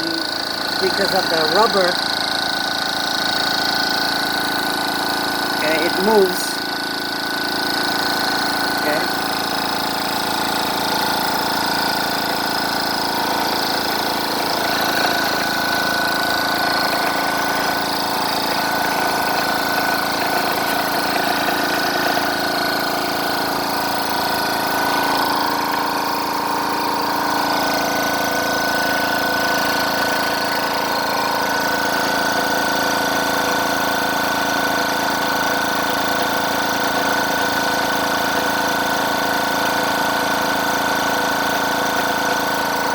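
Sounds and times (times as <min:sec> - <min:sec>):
air compressor running: 0:00.0 - 0:42.9.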